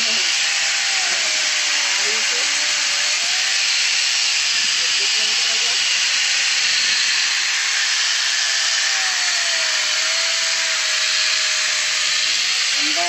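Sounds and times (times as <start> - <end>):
electric chainsaw sawing log: 0.0 - 13.0.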